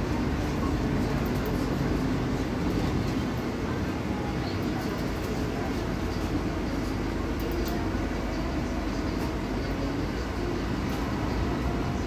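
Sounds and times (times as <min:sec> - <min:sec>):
bus drivetrain and road rumble: 0:00.0 - 0:12.0.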